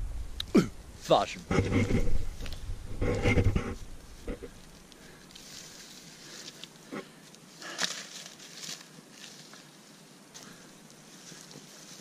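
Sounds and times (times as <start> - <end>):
dry grass rustling underfoot: 0.8 - 12.0.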